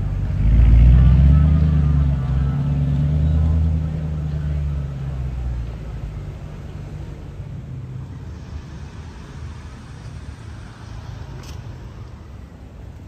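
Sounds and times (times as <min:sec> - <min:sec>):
slow car traffic rumble: 0:00.0 - 0:13.0.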